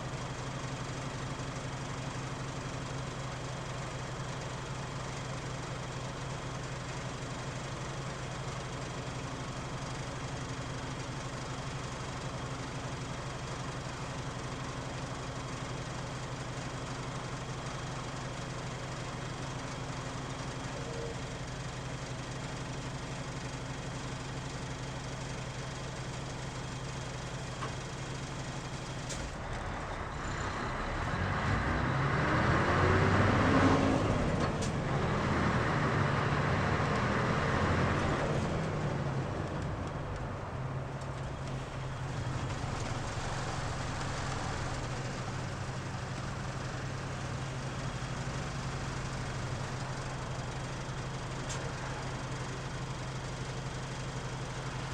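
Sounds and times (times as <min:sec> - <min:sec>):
bus diesel engine idling and revving: 0:00.0 - 0:54.9.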